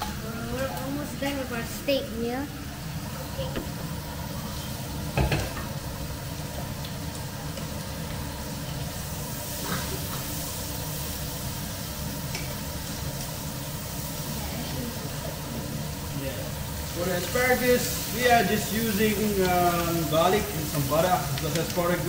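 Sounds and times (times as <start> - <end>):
food sizzling in frying pan: 0.0 - 22.0.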